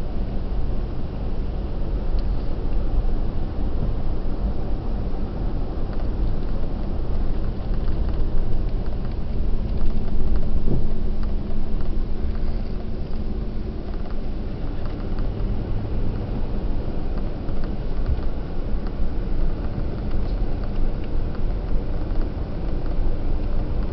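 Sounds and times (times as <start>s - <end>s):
car engine and tyres rumbling: 0.0s - 23.9s.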